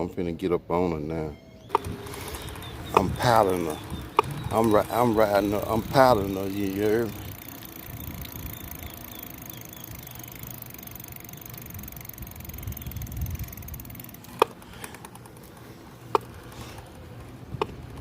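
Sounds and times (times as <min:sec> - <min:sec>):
e-bike rumble with whine: 0:01.0 - 0:18.0
sharp plastic clacks: 0:01.7 - 0:18.0.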